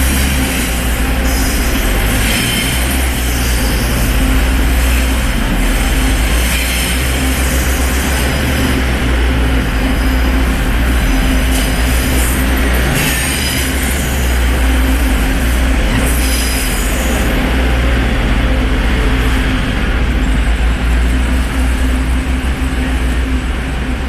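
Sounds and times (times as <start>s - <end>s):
high-pitched wheel squeal: 0.0s - 23.9s
diesel engine drone: 0.0s - 24.0s.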